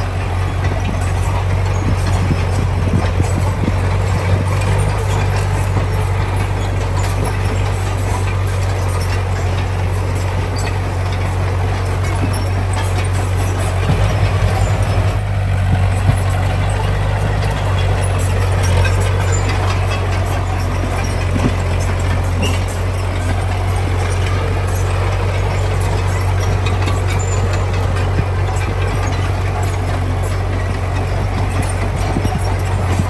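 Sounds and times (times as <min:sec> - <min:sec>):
heavy diesel engine humming: 0:00.0 - 0:33.0
rapid knocks: 0:00.0 - 0:33.0.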